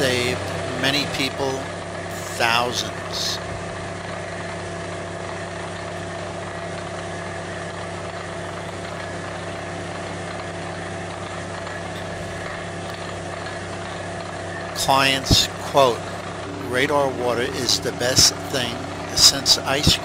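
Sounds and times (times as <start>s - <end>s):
drilling rig engine humming: 0.0s - 20.0s.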